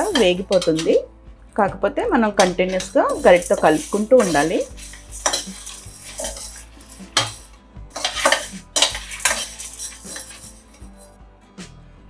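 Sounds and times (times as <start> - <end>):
ladle scraping metal pan: 0.0 - 1.1, 2.4 - 11.2.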